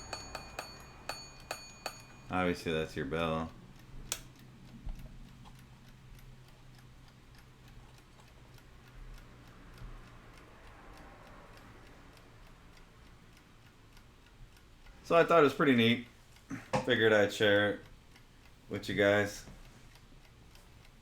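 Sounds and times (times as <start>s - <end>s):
alarm clock ticking: 0.0s - 21.0s.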